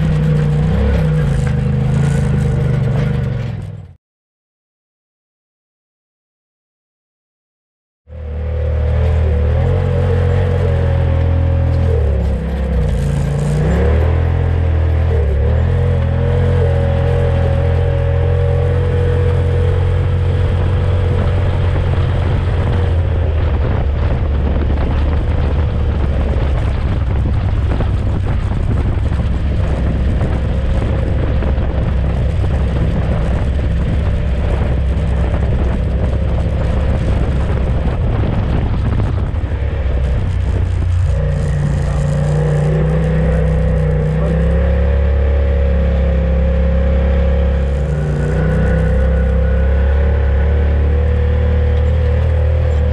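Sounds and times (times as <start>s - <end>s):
utility vehicle engine drone: 0.0s - 4.0s, 8.1s - 52.9s.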